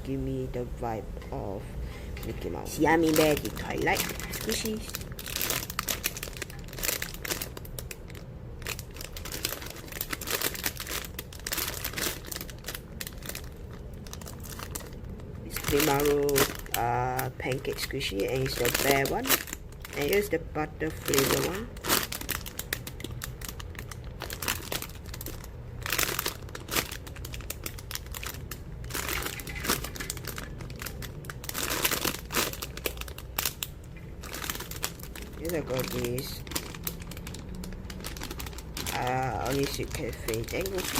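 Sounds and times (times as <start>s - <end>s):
plastic packaging crinkling: 2.2s - 40.9s.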